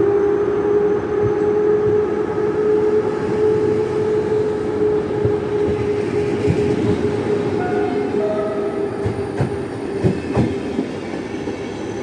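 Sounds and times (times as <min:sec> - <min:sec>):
train wheels rumbling on rails: 0:01.0 - 0:12.0.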